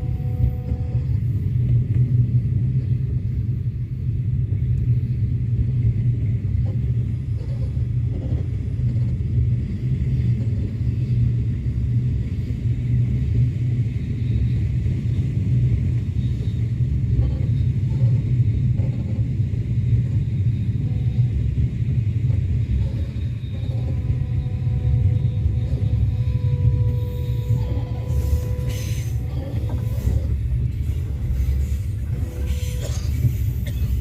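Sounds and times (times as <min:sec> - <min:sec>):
train rumbling along track: 0:00.0 - 0:34.0.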